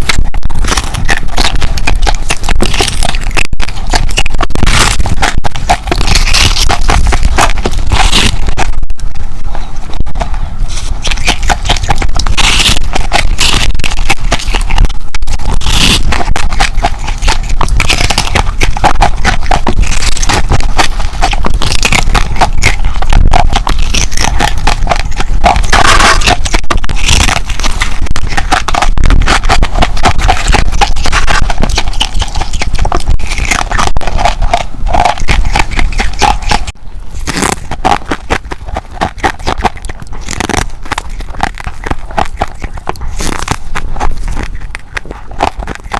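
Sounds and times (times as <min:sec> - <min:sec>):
chewing ice crunching: 0:00.0 - 0:45.9.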